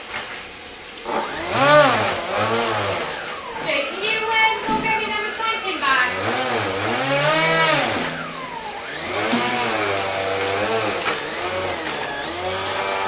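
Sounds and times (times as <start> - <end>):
model jet motor revving: 1.0 - 13.0
steady high whine: 1.0 - 13.0.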